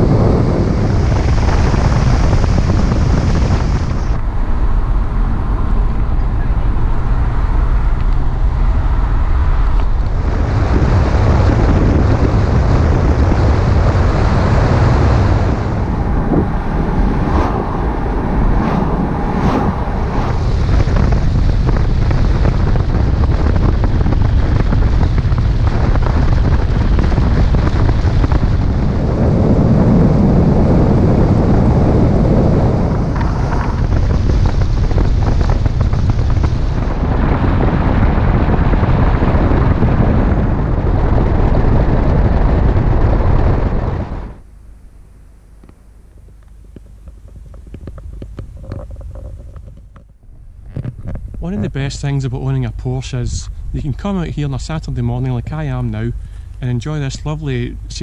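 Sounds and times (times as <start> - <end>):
car engine and tyre noise: 0.0 - 57.8
wind rush over microphone: 0.0 - 58.0.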